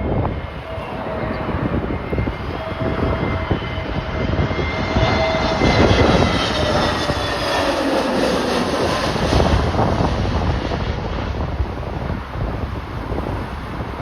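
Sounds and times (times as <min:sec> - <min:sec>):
jet engines whining: 0:00.0 - 0:14.0
wind rumbling on microphone: 0:00.0 - 0:14.0.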